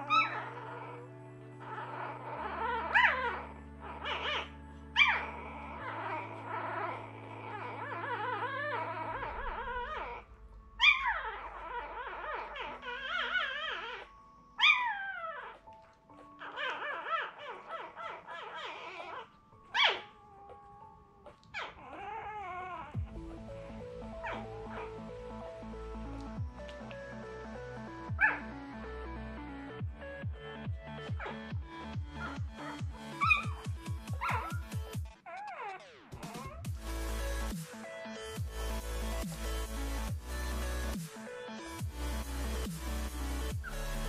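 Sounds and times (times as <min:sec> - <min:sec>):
puppies squealing and whining: 0:00.0 - 0:28.8, 0:29.7 - 0:41.0, 0:41.7 - 0:44.0
background music with low notes: 0:00.0 - 0:44.0.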